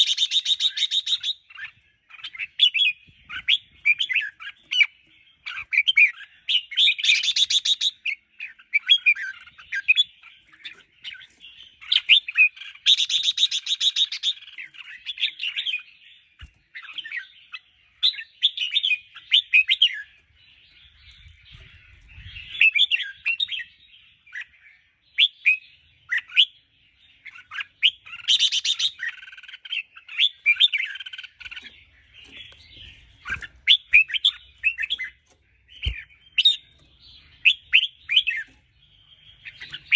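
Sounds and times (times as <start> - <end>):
bulbuls singing warbling chirps: 0.0 - 39.9.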